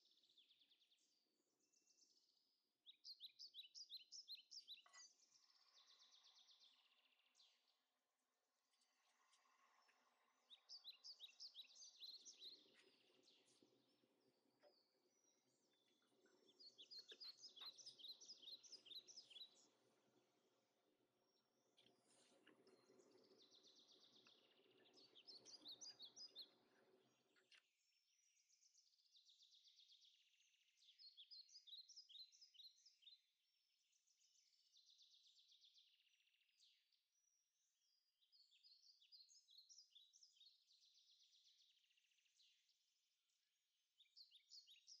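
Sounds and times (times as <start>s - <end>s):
small birds chirping and trilling: 0.0s - 45.0s.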